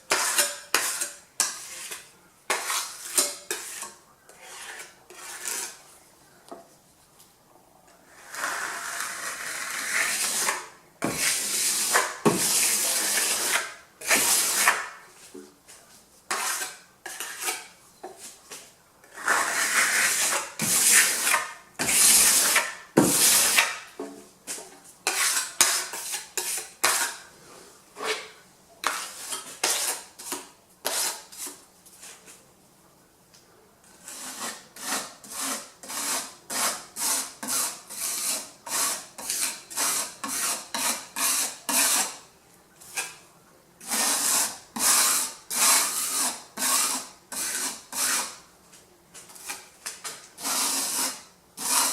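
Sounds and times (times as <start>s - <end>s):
tool scraping across a surface: 0.1s - 5.8s, 8.1s - 32.4s, 33.9s - 42.2s, 43.8s - 48.4s, 49.2s - 51.9s.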